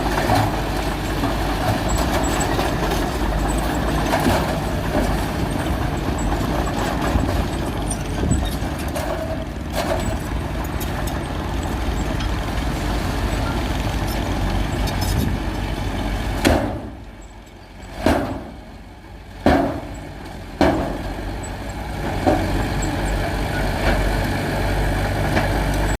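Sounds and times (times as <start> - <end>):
diesel machinery engine running: 0.0 - 26.0.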